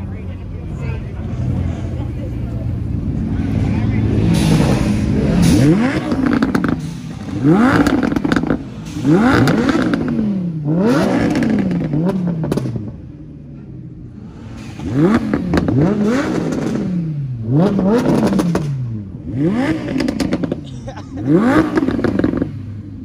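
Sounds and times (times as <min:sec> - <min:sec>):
car engine idling: 0:00.0 - 0:23.0
car engine revving: 0:00.0 - 0:23.0
exhaust crackles: 0:00.0 - 0:23.0.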